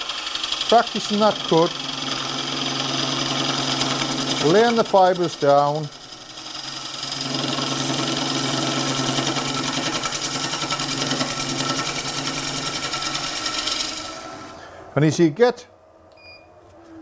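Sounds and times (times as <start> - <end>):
gouge cutting spinning wood: 0.0 - 14.6
low lathe hum: 0.0 - 15.0.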